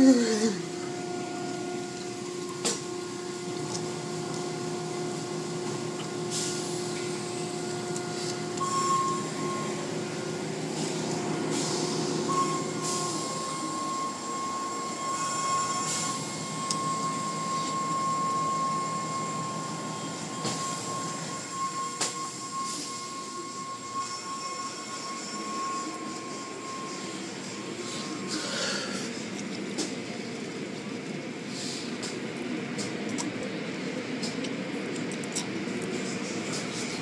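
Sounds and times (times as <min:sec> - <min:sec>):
car wash machinery drone: 0:00.0 - 0:37.0
high steady whine: 0:00.0 - 0:37.0.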